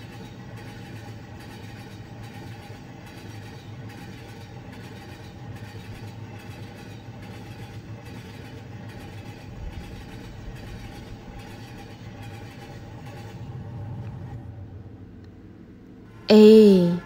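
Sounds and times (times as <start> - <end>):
train rumbling and clattering on track: 0.0 - 15.0.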